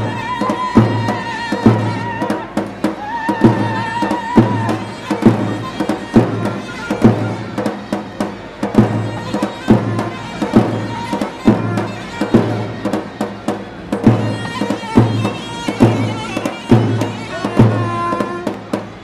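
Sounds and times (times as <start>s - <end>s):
shrill reed pipe: 0.0s - 18.9s
drum beating: 0.0s - 19.0s.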